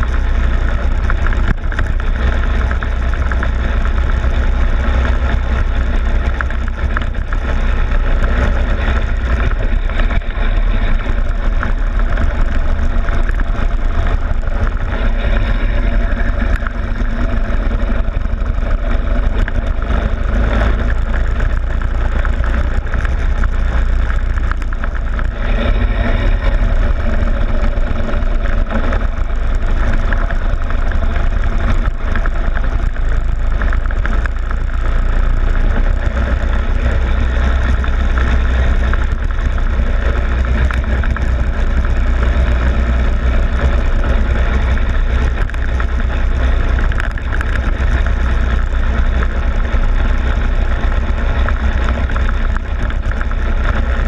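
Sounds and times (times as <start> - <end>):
go-kart engine running: 0.0 - 54.0
wind and vibration rumble: 0.0 - 54.0.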